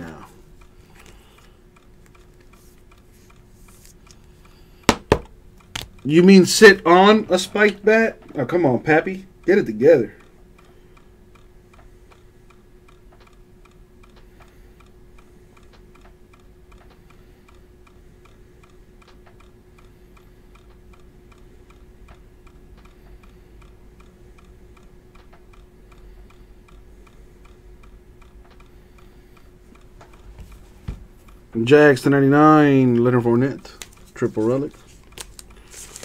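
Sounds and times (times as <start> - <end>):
faint steady ticking: 0.0 - 36.0
low steady hum: 0.0 - 36.0.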